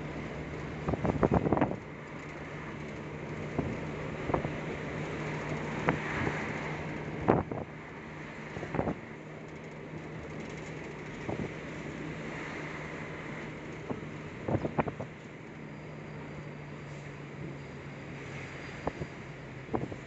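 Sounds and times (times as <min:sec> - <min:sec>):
vehicle engine hum and road noise: 0:00.0 - 0:20.0.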